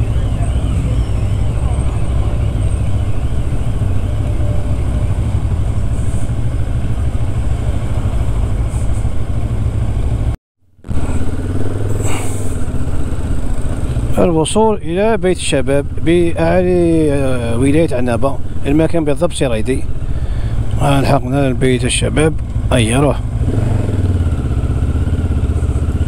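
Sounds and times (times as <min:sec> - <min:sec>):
motorcycle engine running: 0:00.0 - 0:19.0, 0:19.8 - 0:26.0.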